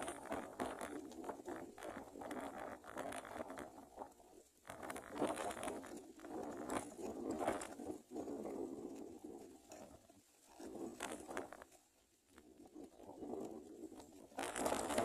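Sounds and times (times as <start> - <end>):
nestlings rustling and scratching: 0.0 - 15.0.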